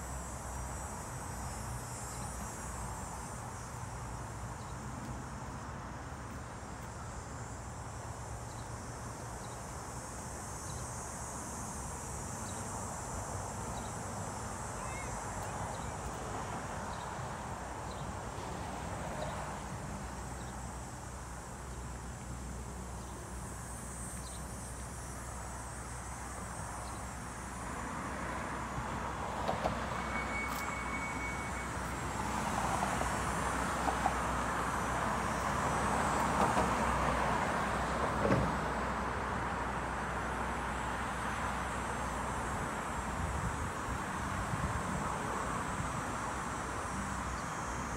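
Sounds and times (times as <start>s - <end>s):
high insect buzz: 0.0s - 47.9s
road traffic noise: 0.0s - 47.9s.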